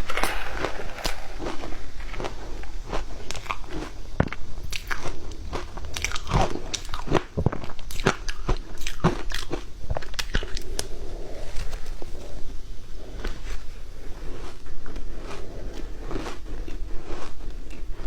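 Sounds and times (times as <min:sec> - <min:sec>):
ice being crunched and chewed: 0:00.0 - 0:12.2, 0:13.2 - 0:18.0.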